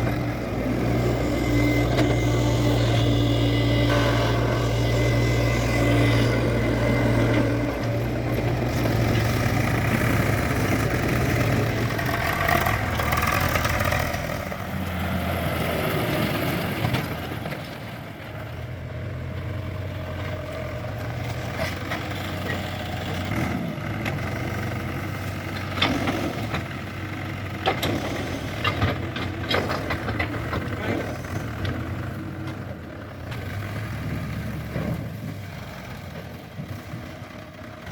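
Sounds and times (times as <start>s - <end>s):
heavy diesel engines running: 0.0s - 37.9s.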